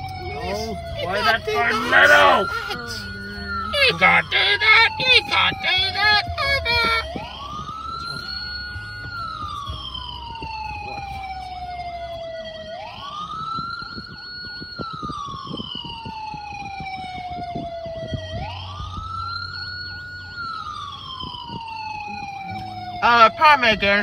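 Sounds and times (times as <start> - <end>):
faint fast-cycling siren: 0.0 - 24.0
low engine hum: 0.0 - 24.0
toy siren wailing: 0.0 - 24.0.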